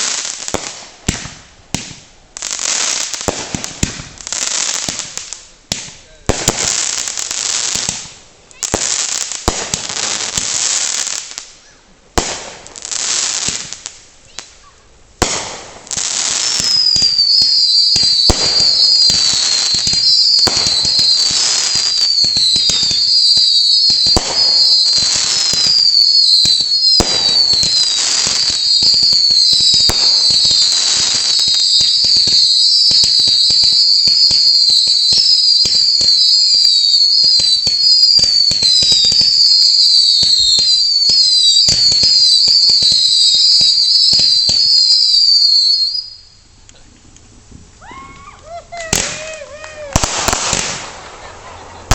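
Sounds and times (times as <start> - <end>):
firework bangs: 0.0 - 46.3, 47.5 - 51.9
crackling hiss: 0.0 - 51.9
fireworks hissing bursts: 0.0 - 51.9
falling firework whistles: 6.3 - 46.4, 47.9 - 51.9.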